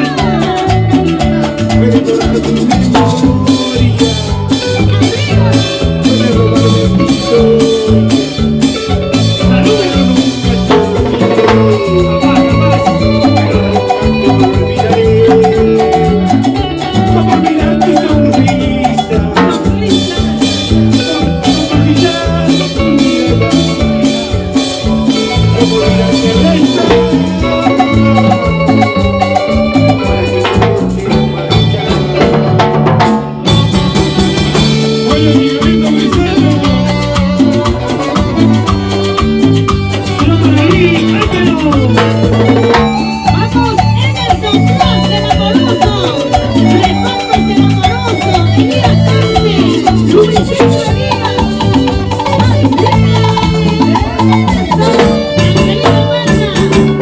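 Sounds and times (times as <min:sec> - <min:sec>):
live band playing latin dance music: 0:00.0 - 0:57.0.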